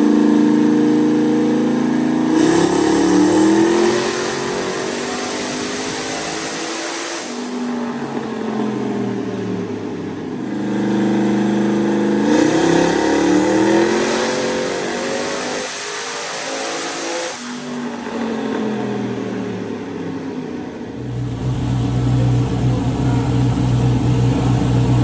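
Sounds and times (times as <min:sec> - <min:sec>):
engine revving on dyno: 0:00.0 - 0:25.0.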